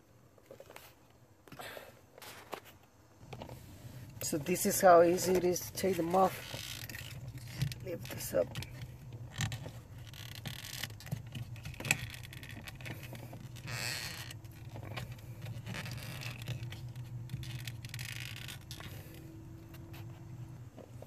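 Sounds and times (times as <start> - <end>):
rubber scraping and creaking on metal: 2.2 - 21.0.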